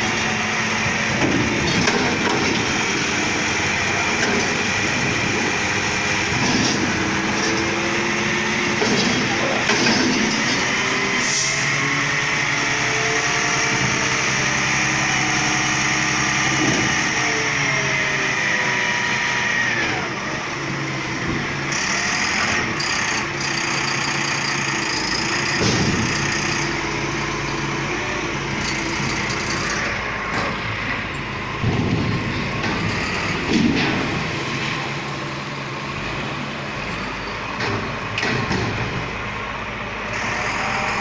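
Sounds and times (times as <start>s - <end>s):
garbage truck engine revving: 0.0s - 41.0s.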